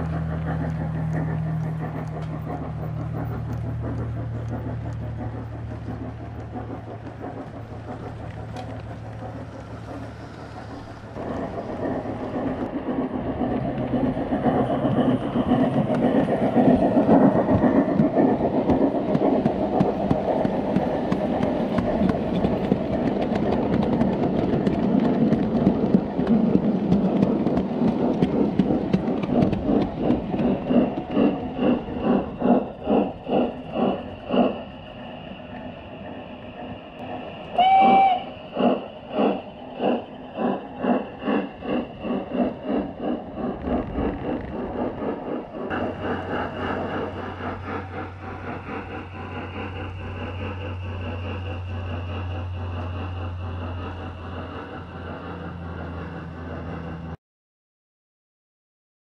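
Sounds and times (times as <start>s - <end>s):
model train wheels rumbling and clicking: 0.0s - 57.2s
steady low hum: 0.0s - 57.2s.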